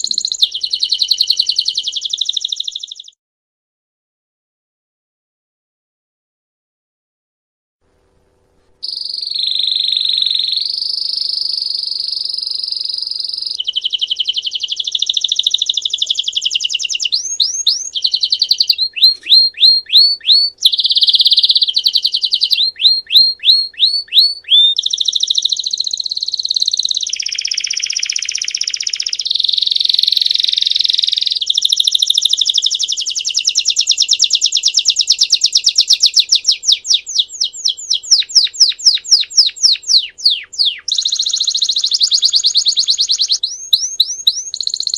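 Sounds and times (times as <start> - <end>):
canary singing trills: 0.0 - 3.2, 8.8 - 44.9.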